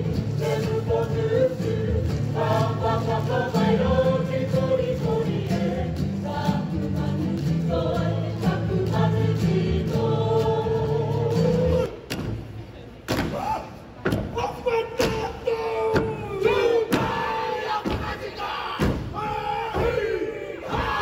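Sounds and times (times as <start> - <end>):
group singing in chorus: 0.0 - 12.0, 15.6 - 21.0.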